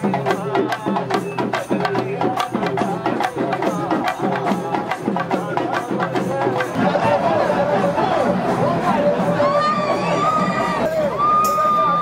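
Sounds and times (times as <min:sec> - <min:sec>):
drums beaten fast: 0:00.0 - 0:12.0.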